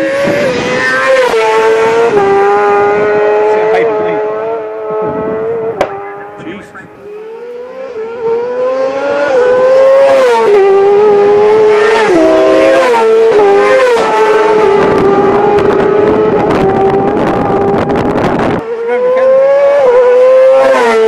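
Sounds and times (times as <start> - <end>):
motorcycle engine revving high: 0.0 - 21.0.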